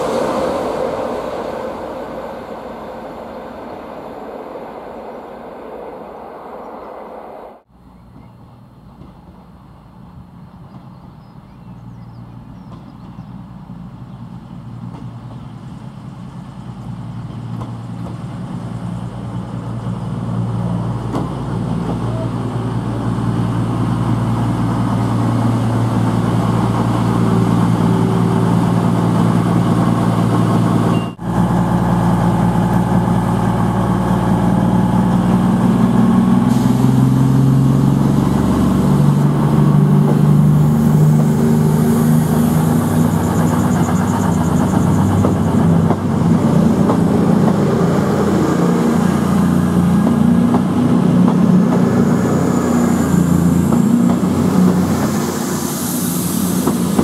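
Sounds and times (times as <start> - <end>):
diesel train engine humming: 0.0 - 57.0.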